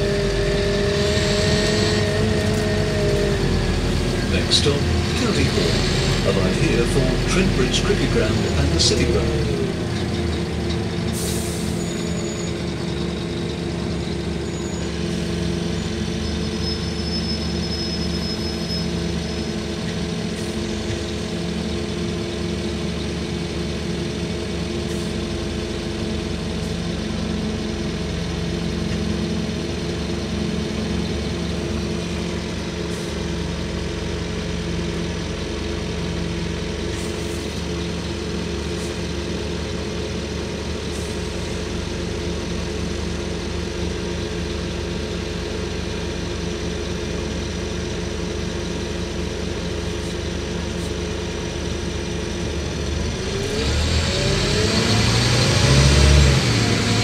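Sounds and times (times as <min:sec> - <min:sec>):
bus diesel engine idling: 0:00.0 - 0:57.0.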